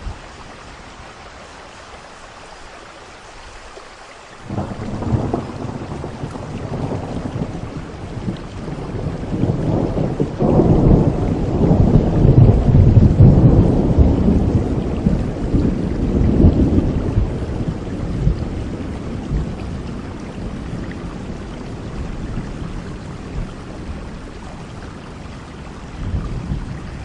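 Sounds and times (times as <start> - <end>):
heavy rain: 0.0 - 27.0
rolling thunder: 4.5 - 27.0.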